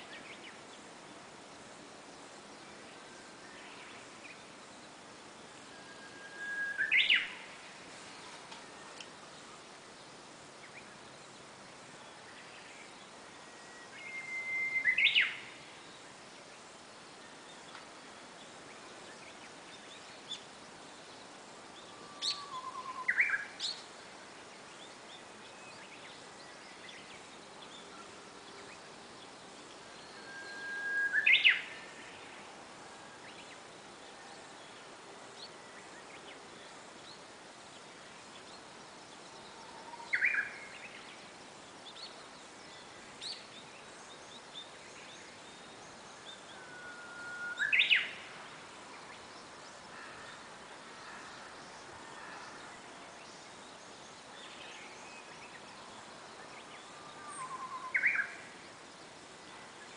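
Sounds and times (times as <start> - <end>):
bush warbler whistling song: 2.1 - 32.5, 35.4 - 50.1, 51.0 - 59.9.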